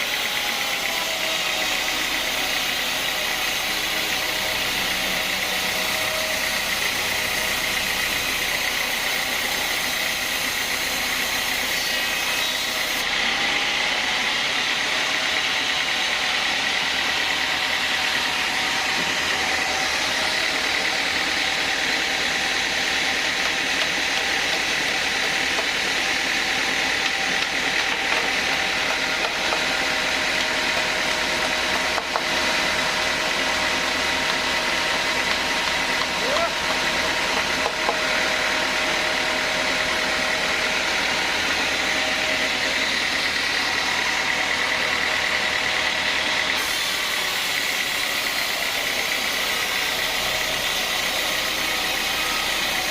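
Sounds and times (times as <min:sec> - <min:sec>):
band saw whining: 0:00.0 - 0:52.9.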